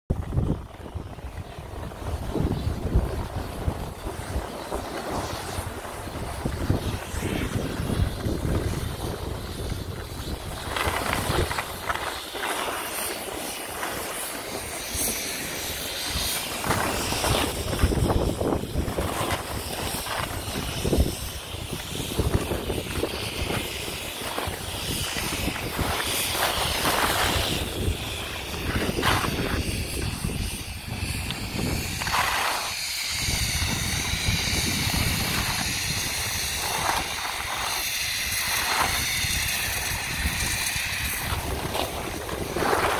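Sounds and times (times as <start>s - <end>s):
wind rushing over microphone: 0.1s - 42.9s
ski edges scraping snow: 0.2s - 42.9s.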